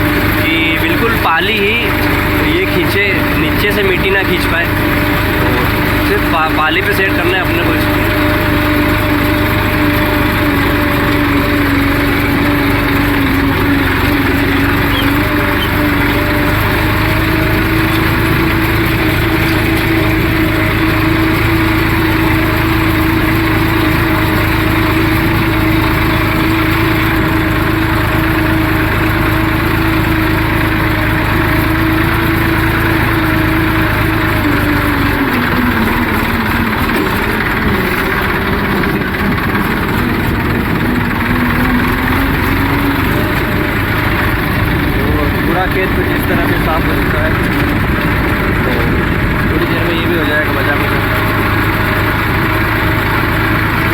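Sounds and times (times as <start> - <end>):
tractor engine running under load: 0.0 - 53.9.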